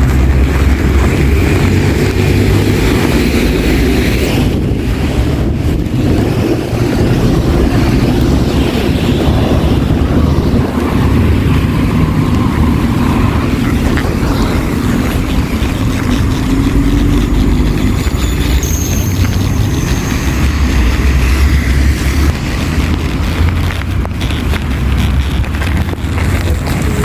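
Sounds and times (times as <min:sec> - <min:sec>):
city traffic drone: 0:00.0 - 0:27.0.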